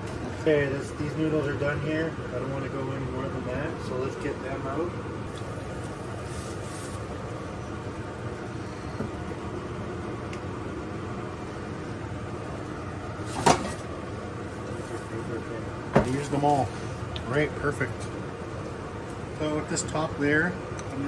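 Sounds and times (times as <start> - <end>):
pots cooking on gas range: 0.0 - 21.0.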